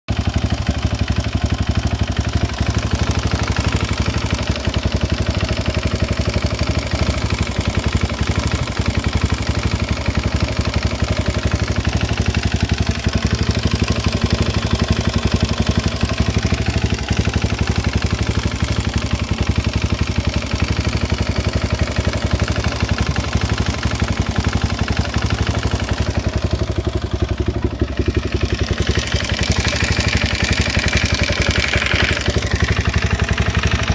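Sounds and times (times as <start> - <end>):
quad engine idling with clatter: 0.0 - 33.9.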